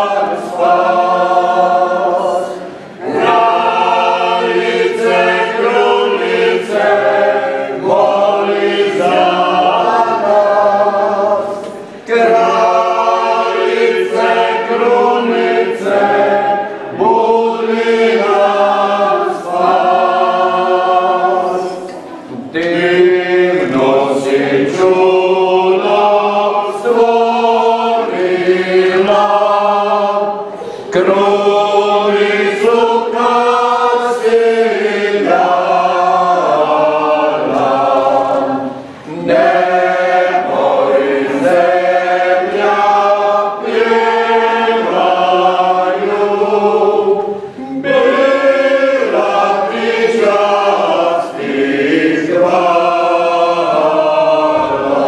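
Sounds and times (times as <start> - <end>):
choir singing a slow hymn: 0.0 - 55.0.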